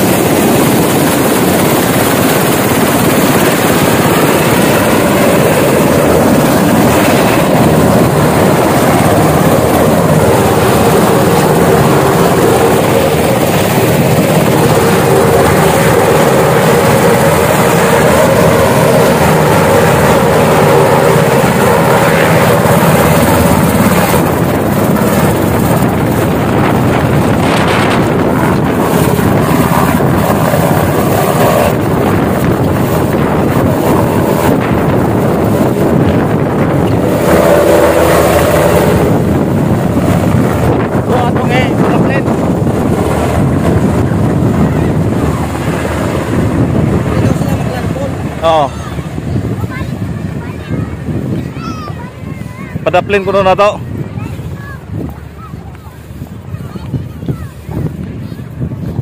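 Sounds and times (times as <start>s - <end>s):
helicopter rotor beat: 0.0s - 59.0s
helicopter turbine whine: 0.0s - 59.0s.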